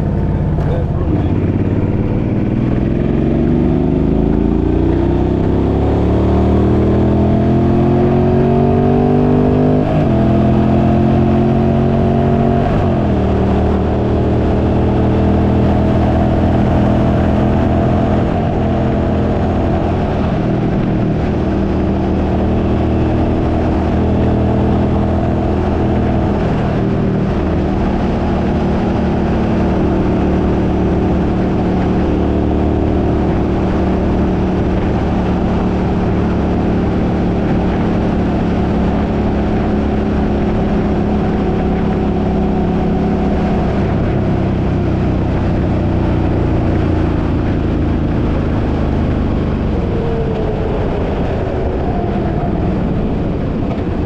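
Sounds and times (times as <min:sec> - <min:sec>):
car engine running: 0:00.0 - 0:54.0
road noise: 0:00.0 - 0:54.0.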